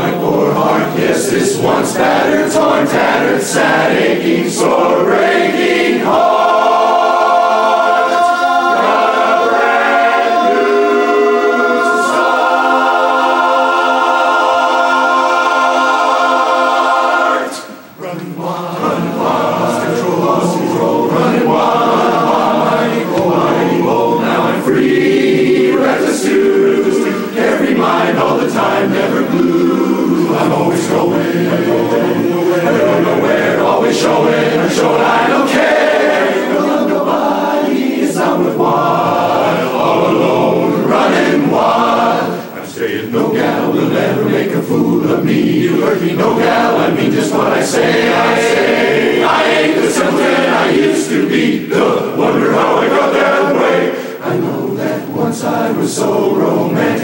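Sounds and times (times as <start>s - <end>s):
men's chorus singing a cappella: 0.0s - 57.0s.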